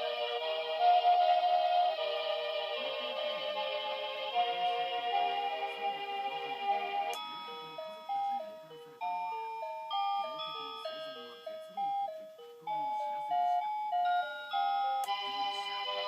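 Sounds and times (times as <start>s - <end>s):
alarm clock melody: 0.0s - 16.0s.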